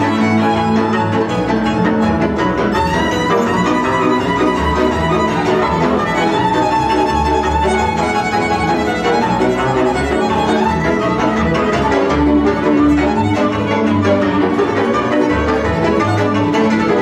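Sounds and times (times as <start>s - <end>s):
double bass: 0.0s - 17.0s
fiddle melody: 0.0s - 17.0s
viola: 0.0s - 17.0s.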